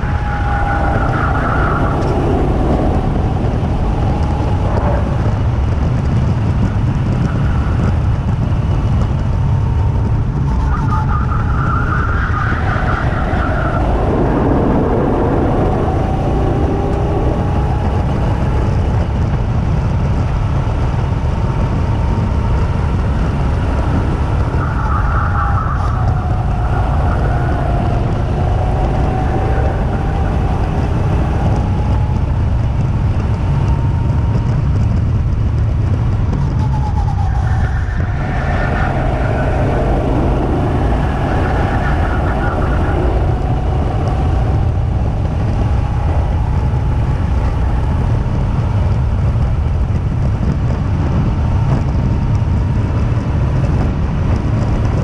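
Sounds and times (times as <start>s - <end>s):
wind rush on microphone: 0.0s - 55.0s.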